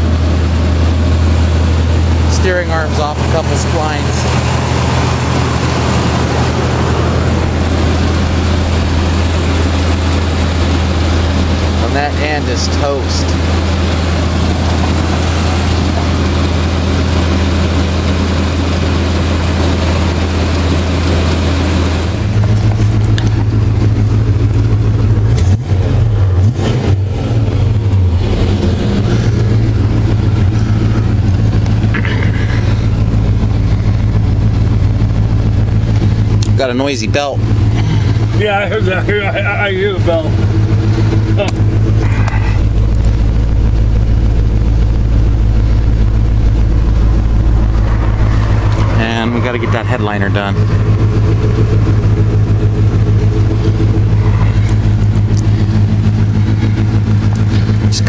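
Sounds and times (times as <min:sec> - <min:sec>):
engine idling: 0:00.0 - 0:58.0
noisy accessory belt: 0:07.4 - 0:58.0.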